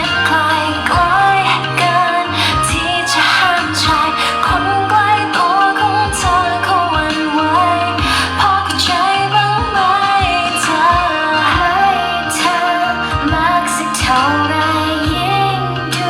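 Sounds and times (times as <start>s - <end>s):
pop song over loudspeakers: 0.0s - 16.0s.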